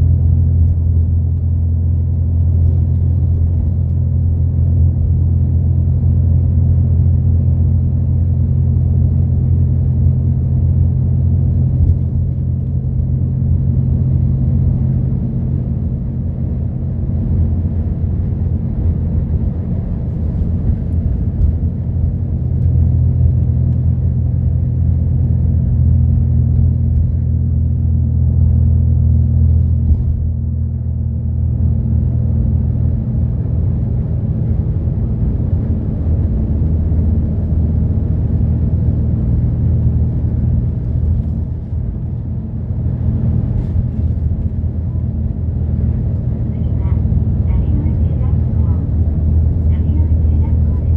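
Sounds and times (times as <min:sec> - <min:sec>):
bus engine drone: 0:00.0 - 0:50.9
road and tyre rumble: 0:00.0 - 0:50.9.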